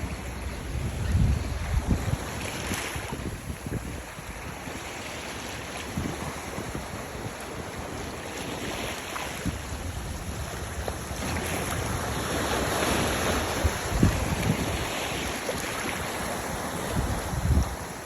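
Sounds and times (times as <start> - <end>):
sea water washing: 0.0 - 18.0
wind buffeting microphone: 0.0 - 18.0.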